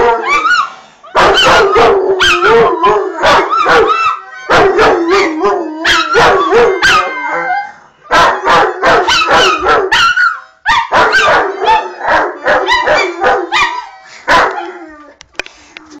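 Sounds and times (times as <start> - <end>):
dogs howling: 0.0 - 15.2.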